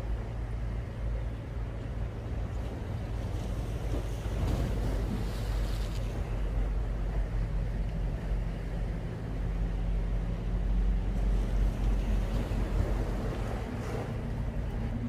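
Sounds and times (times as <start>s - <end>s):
low motor hum: 0.0s - 15.0s
open-air rumble: 0.0s - 15.0s.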